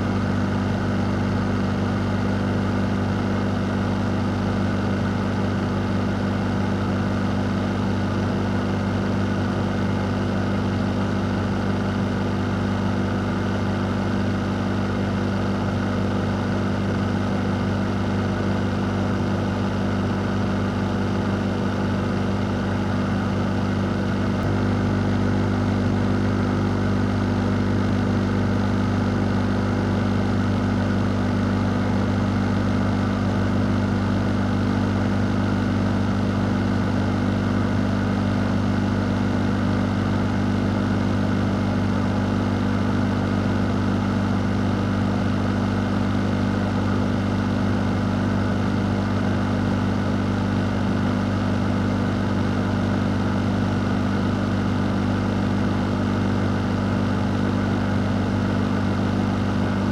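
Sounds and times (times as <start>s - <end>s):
fan running: 0.0s - 59.9s.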